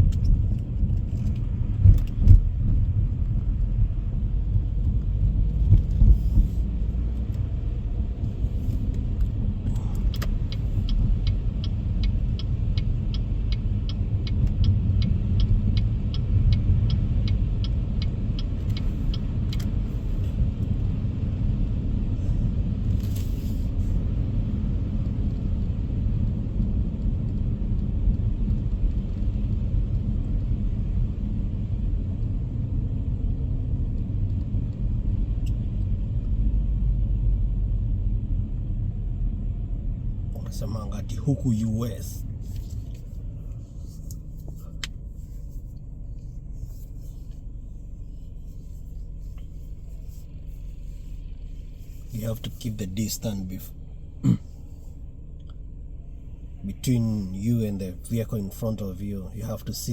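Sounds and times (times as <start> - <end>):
turn signal clicking: 0.0 - 21.9, 22.5 - 36.5, 40.3 - 59.9
car tyre and engine rumble: 0.0 - 59.9.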